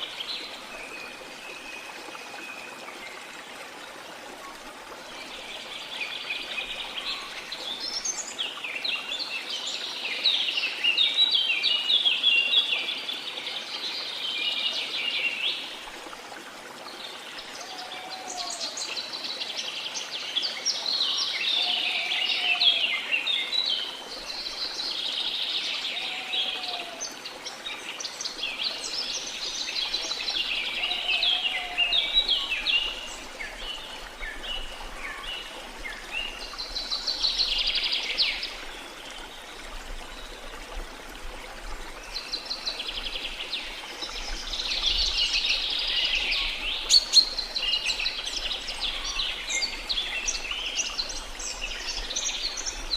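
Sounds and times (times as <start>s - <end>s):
flowing water: 0.0s - 52.9s.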